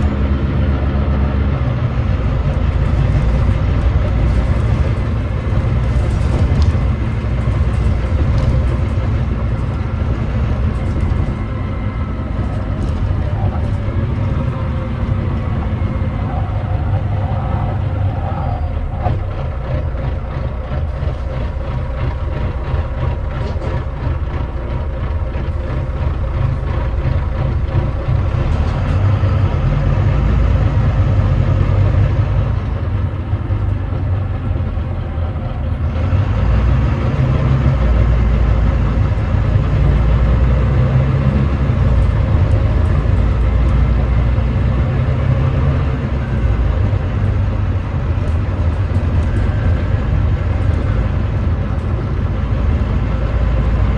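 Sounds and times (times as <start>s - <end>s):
bus diesel engine drone: 0.0s - 53.9s.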